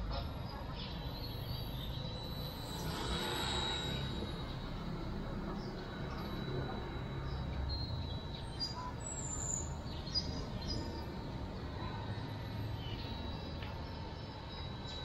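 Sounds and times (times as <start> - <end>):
birds chirping: 0.0 - 15.0
model helicopter whine: 2.0 - 15.0.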